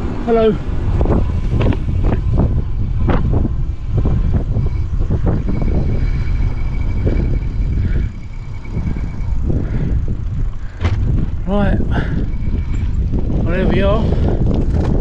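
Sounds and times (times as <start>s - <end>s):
wind buffeting microphone: 0.0s - 15.0s
faint thin steady whine: 0.3s - 14.4s.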